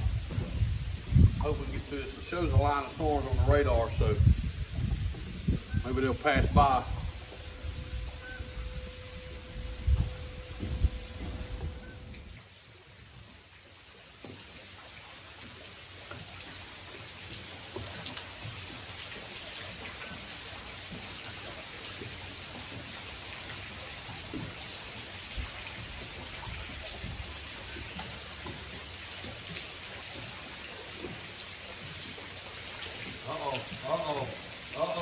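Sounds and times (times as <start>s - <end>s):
individual raindrops: 0.0s - 35.0s
rain falling on lake: 0.0s - 35.0s.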